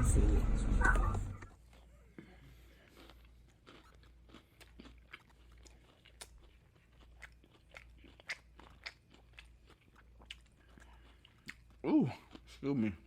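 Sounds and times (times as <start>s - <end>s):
faint crunchy chewing: 1.4s - 13.0s.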